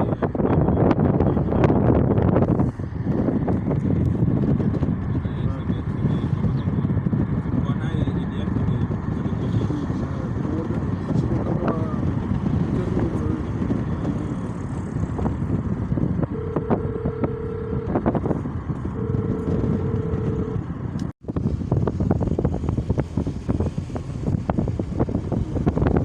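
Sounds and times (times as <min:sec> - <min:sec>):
city street traffic: 0:00.0 - 0:26.0
wind buffeting microphone: 0:00.0 - 0:26.0.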